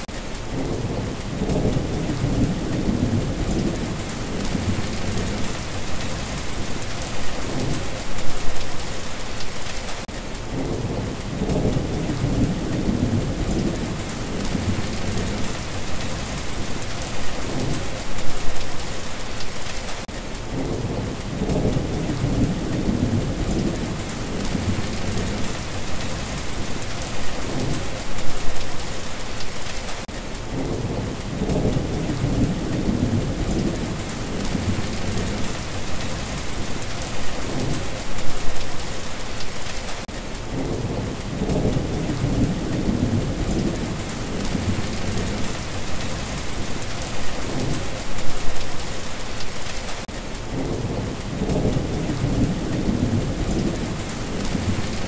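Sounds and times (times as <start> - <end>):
thunder rumbling: 0.0 - 9.0, 10.5 - 18.9, 20.5 - 28.9, 30.5 - 38.9, 40.5 - 49.0, 50.5 - 55.0
heavy rain: 0.0 - 55.0.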